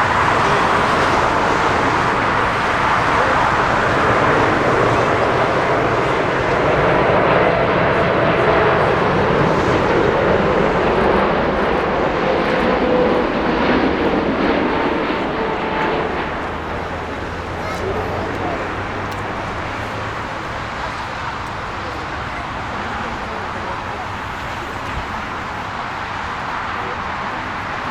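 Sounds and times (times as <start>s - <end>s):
falling engine whine: 0.0s - 27.9s
jet engines roaring: 0.0s - 27.9s.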